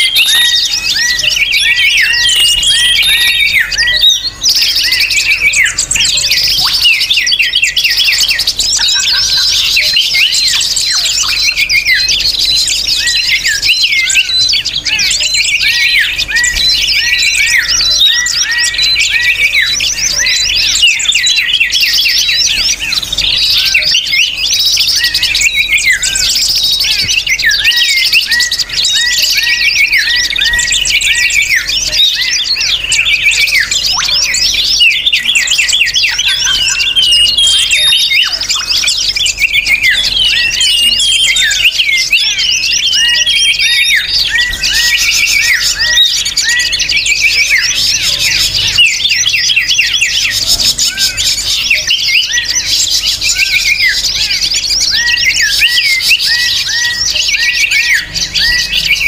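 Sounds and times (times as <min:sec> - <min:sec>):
many small birds chirping: 0:00.0 - 0:59.0.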